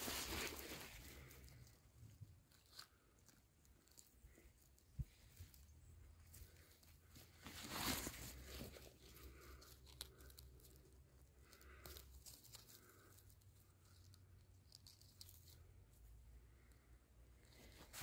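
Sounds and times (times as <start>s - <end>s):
hand rustling through moss: 0.0s - 16.0s.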